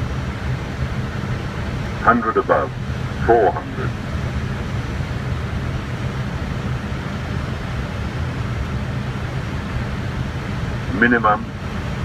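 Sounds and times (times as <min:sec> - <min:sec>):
aircraft engine and airflow: 0:00.0 - 0:12.0
constant low hum: 0:00.0 - 0:12.0.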